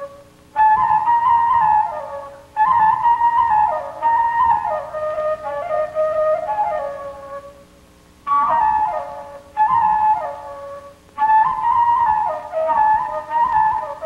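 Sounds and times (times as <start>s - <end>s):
solo flute melody: 0.0s - 14.0s.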